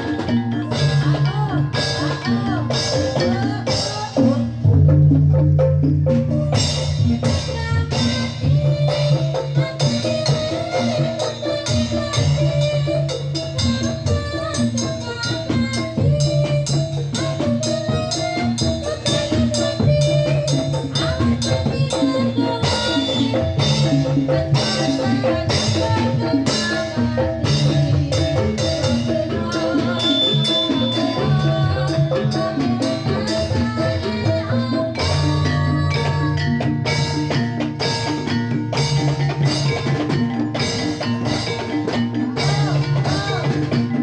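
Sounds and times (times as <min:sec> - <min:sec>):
gamelan music: 0:00.0 - 0:44.0
hand drums: 0:00.0 - 0:44.0
metal mallet percussion: 0:00.0 - 0:44.0.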